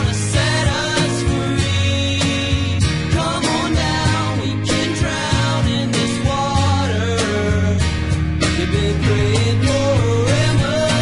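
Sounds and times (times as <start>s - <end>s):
instrumental music with drum beat: 0.0s - 11.0s.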